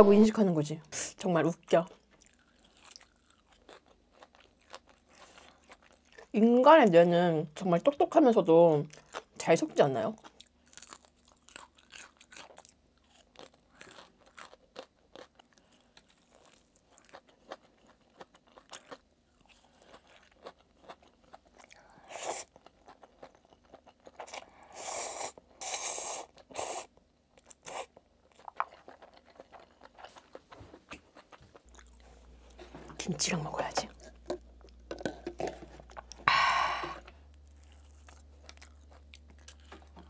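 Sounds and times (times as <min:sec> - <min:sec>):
chewing crunchy fried food: 0:01.7 - 0:06.4, 0:08.7 - 0:36.3, 0:37.0 - 0:40.0.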